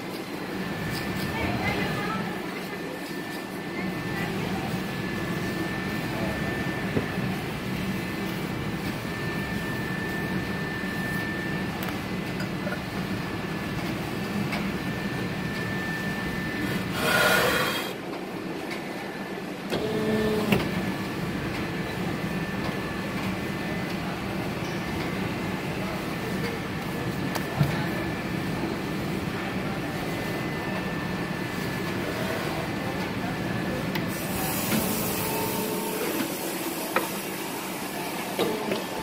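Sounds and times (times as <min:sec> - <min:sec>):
machinery humming: 0:00.0 - 0:27.3, 0:27.9 - 0:39.0.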